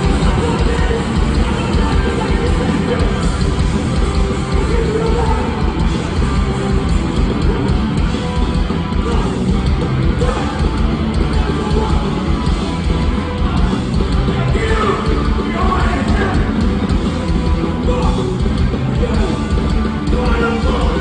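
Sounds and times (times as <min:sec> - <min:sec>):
punk band playing live: 0:00.0 - 0:21.0.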